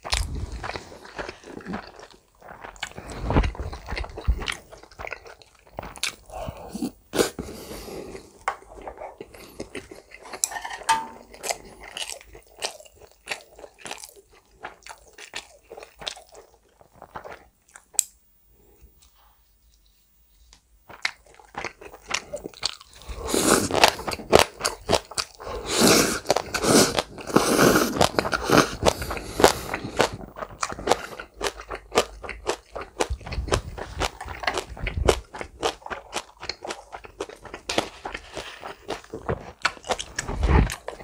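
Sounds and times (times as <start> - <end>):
chewing and crunching food: 0.0 - 41.0.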